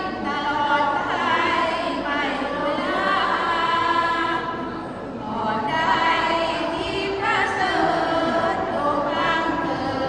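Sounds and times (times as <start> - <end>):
women chanting melodically: 0.0 - 10.0.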